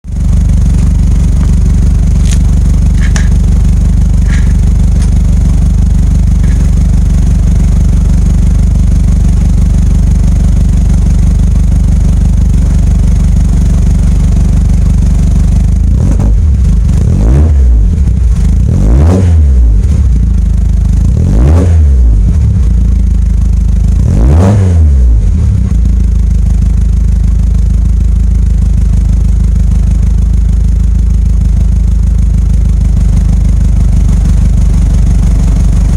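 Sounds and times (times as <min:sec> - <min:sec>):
car engine idling: 0:00.0 - 0:35.9
engine throttle blips: 0:00.0 - 0:35.9.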